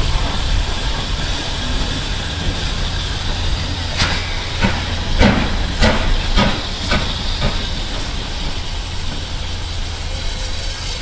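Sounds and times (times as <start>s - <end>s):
steady steam hiss: 0.0s - 11.0s
steam locomotive chuffing: 0.0s - 11.0s.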